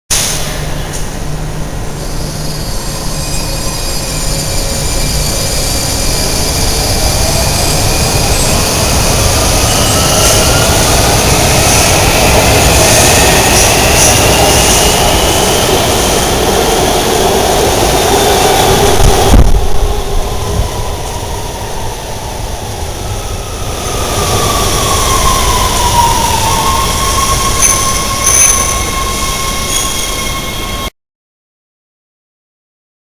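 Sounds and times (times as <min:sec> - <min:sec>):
electric whine of train: 0:00.1 - 0:30.9
subway train wheels rumbling on rail: 0:00.1 - 0:30.9.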